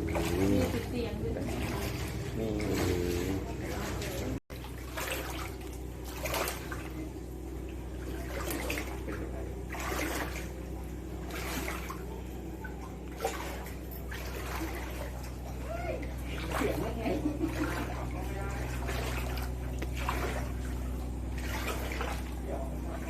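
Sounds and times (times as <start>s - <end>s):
river water sloshing and splashing: 0.0s - 23.0s
steady low hum: 0.0s - 23.0s.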